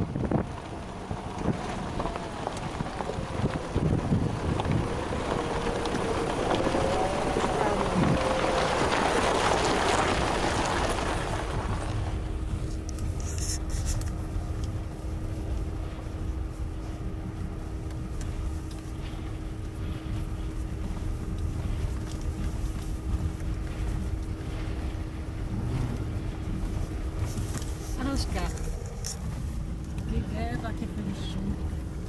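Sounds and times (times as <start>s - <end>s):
vehicle engine drone: 0.0s - 32.0s.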